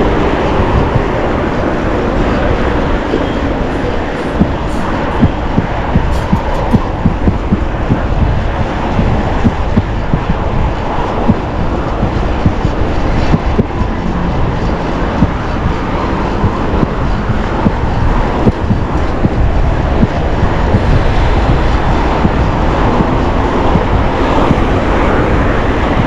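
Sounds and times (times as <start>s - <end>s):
street traffic: 0.0s - 26.0s
wind rushing: 0.0s - 26.0s.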